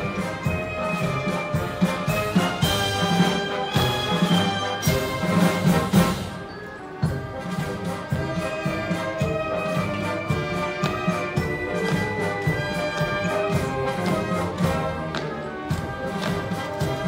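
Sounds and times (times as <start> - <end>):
marching band playing a march: 0.0 - 17.0.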